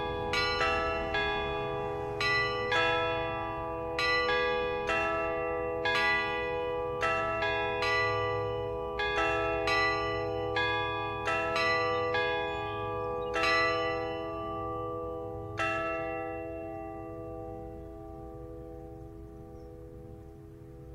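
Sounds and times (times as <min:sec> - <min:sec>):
church bells ringing: 0:00.0 - 0:20.9.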